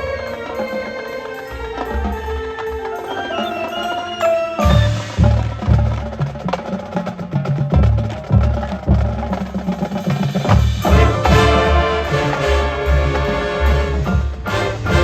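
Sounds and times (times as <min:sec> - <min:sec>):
marching band instruments: 0:00.0 - 0:15.0.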